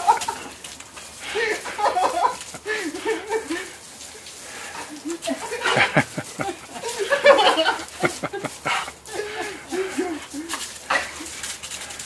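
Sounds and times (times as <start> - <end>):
hose spray splashing: 0.0 - 12.0.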